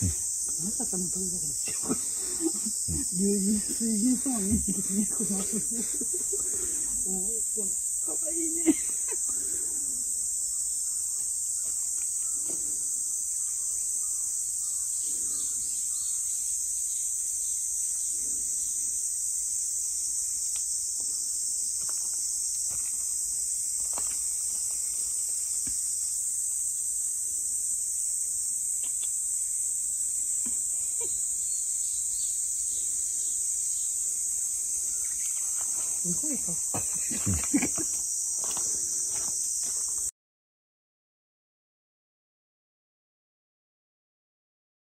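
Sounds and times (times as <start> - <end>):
insect chorus: 0.0 - 40.1.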